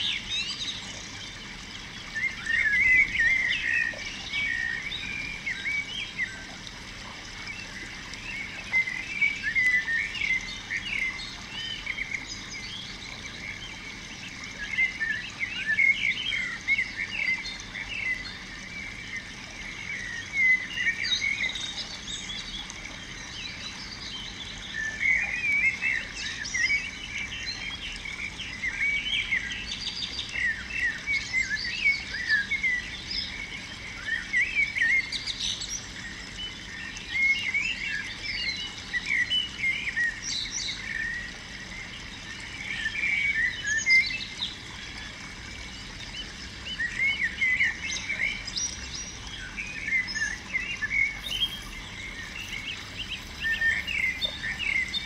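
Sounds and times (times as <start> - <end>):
faint outdoor hiss: 0.0 - 55.0
small birds chirping: 0.0 - 55.0.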